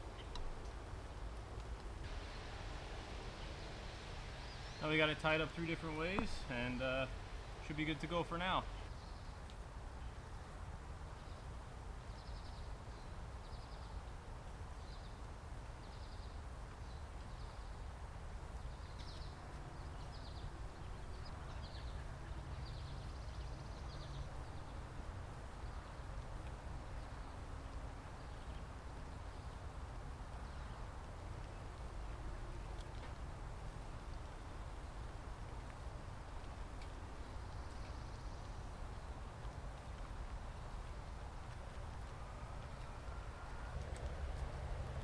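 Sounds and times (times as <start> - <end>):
low rumble and hiss: 0.0 - 45.0.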